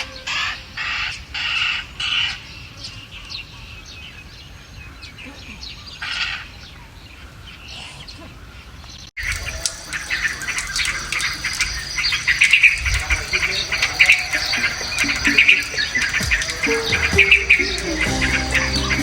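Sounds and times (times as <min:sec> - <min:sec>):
small birds chirping: 0:01.9 - 0:19.0.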